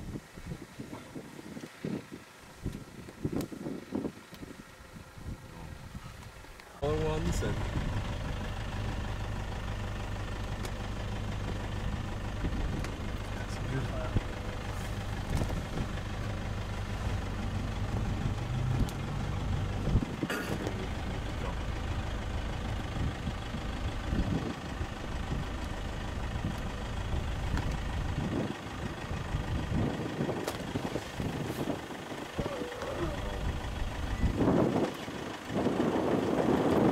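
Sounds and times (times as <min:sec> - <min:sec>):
irregular low rumble: 0:00.0 - 0:36.9
vehicle engine idling: 0:00.0 - 0:36.9.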